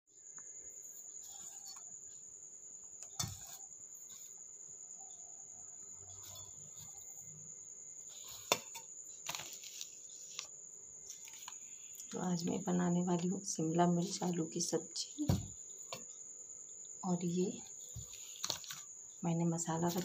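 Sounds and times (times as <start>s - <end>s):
cricket trilling: 0.1s - 20.0s.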